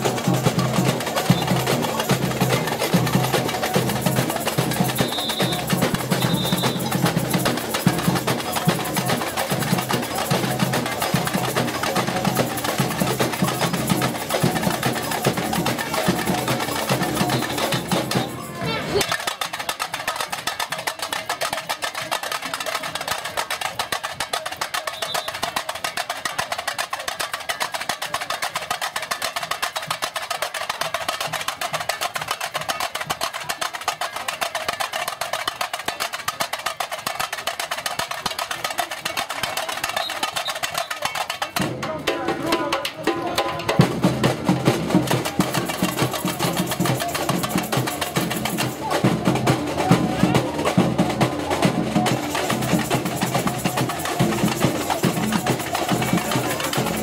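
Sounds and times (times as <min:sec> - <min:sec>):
samba percussion band: 0:00.0 - 0:57.0.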